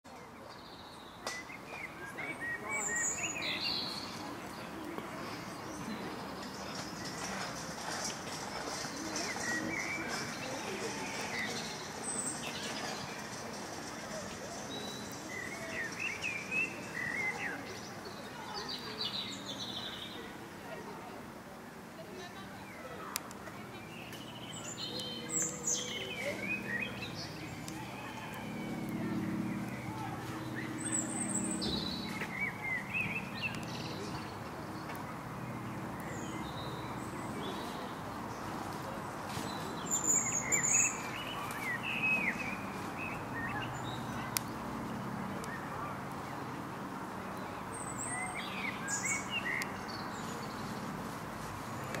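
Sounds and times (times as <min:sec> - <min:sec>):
songbird chirping: 0:00.1 - 0:20.5, 0:22.2 - 0:46.5, 0:47.3 - 0:51.0.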